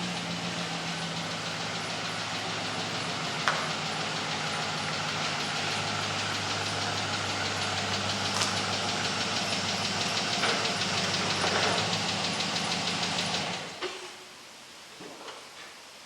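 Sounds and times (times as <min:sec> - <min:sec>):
engine idling with clatter: 0:00.0 - 0:14.1.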